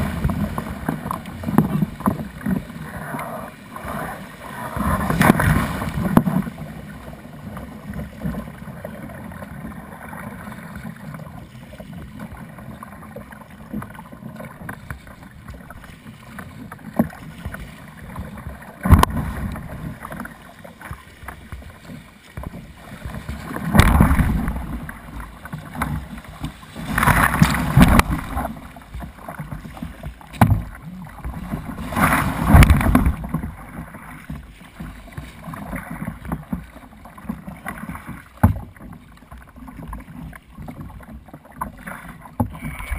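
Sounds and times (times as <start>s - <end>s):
water splashing against kayak: 0.0s - 42.9s.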